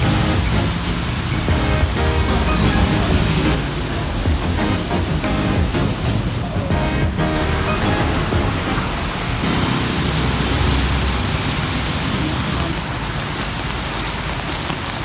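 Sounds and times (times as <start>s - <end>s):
heavy rain on a street: 0.0s - 15.0s
road traffic: 0.0s - 15.0s.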